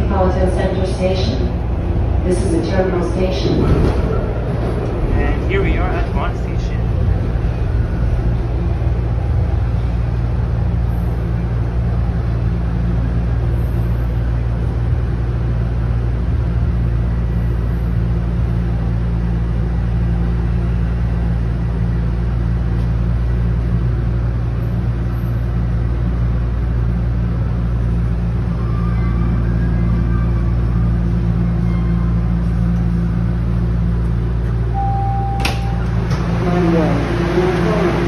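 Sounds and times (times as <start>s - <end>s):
subway train rumble and hum: 0.0s - 38.0s.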